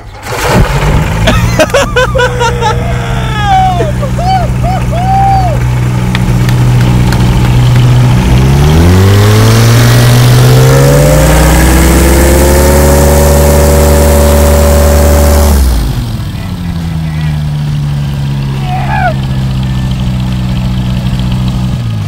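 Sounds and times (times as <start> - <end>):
propeller plane engine revving: 0.0 - 22.0.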